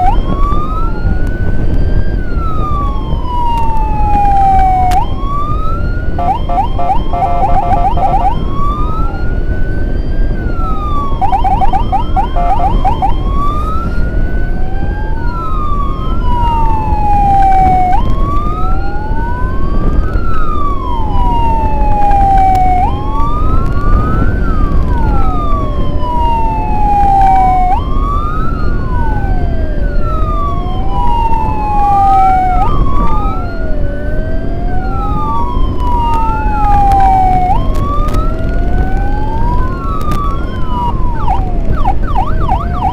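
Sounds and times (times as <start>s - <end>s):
emergency sirens wailing: 0.0s - 42.9s
road and wind rumble: 0.0s - 42.9s.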